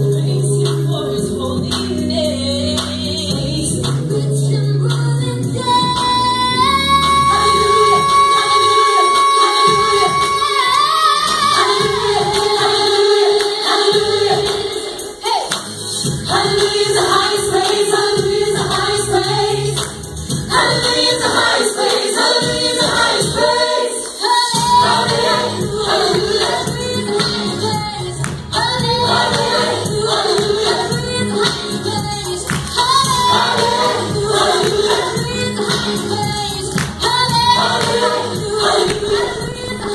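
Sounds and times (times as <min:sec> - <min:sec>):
group singing worship song: 0:05.3 - 0:39.9.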